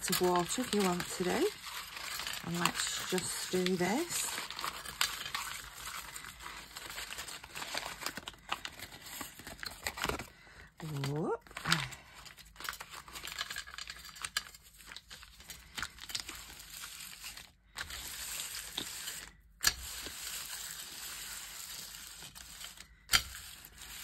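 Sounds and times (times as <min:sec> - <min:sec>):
crumpled paper rustling: 0:00.0 - 0:24.0.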